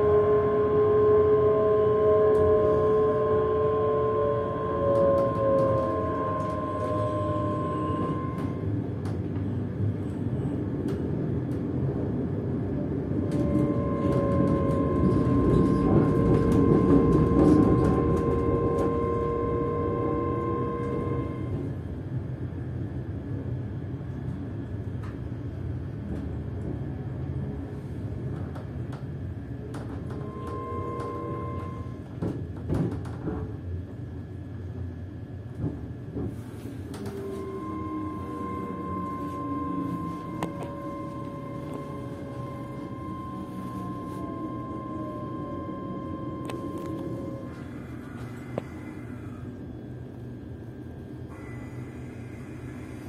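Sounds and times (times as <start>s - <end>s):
electric train motor whine: 0.0s - 53.0s
lower whine: 0.0s - 53.0s
train running gear rumble: 0.0s - 53.0s.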